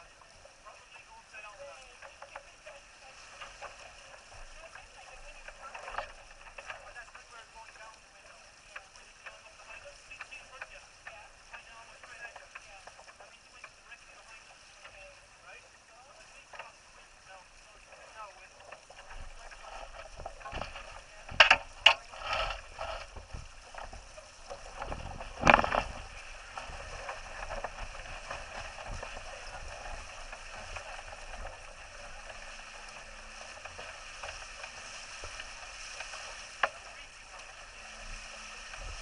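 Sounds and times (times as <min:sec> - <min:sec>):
water rushing along hull: 0:00.0 - 0:39.0.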